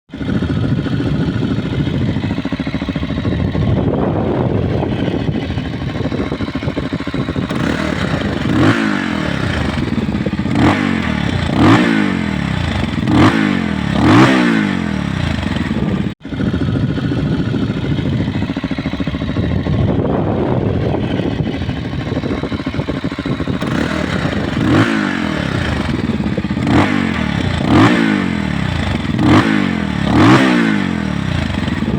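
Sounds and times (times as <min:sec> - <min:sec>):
motorcycle engine idling and revving: 0:00.1 - 0:31.9.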